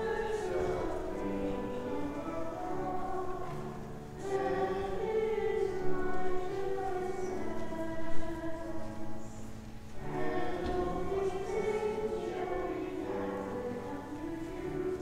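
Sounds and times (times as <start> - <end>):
hymn singing: 0.0 - 15.0.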